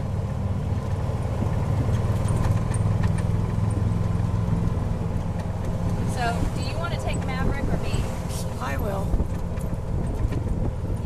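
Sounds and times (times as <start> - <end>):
golf cart drivetrain drone: 0.0 - 11.0
light rattles: 0.8 - 11.0.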